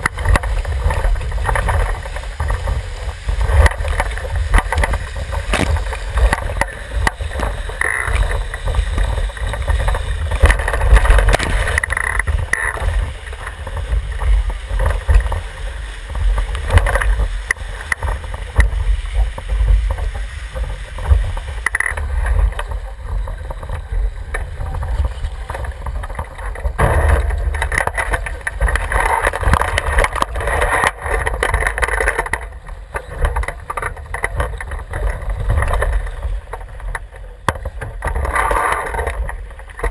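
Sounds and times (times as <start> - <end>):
heavy rumble: 0.0 - 39.9
water rushing along boat hull: 0.0 - 39.9.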